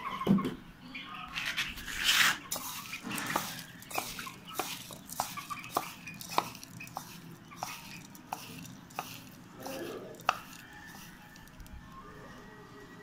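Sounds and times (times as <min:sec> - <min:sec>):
grain rustling: 0:01.4 - 0:12.1.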